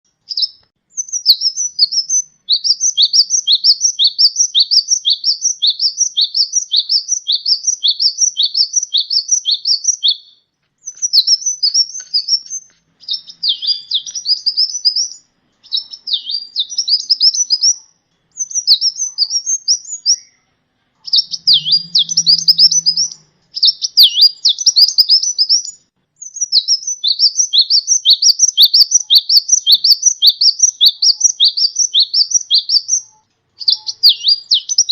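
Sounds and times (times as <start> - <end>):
sunbird chirping song: 0.1 - 34.9.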